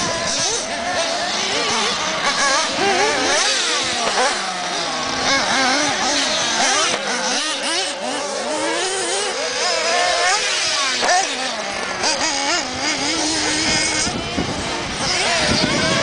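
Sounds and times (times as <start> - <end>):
rc car engines whining: 0.0 - 16.0.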